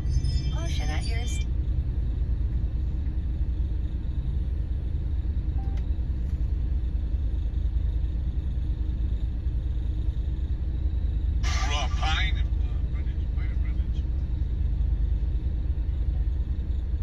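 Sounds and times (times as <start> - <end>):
vehicle engine idling: 1.5 - 17.0.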